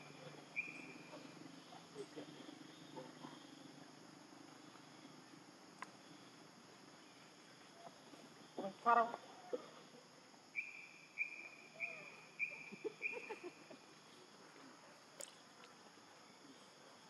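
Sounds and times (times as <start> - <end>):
quiet forest background: 0.0 - 17.0.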